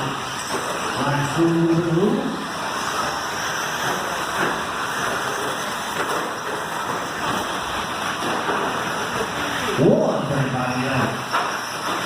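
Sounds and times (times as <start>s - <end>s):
rc truck motors whirring: 0.0s - 12.0s.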